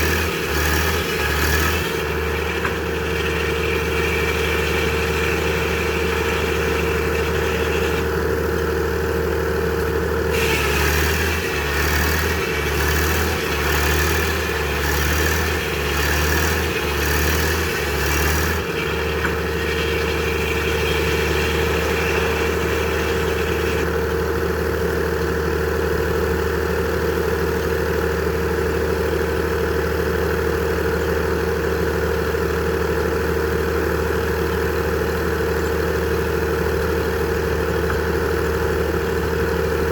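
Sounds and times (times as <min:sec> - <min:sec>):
sawmill running: 0:00.0 - 0:39.9.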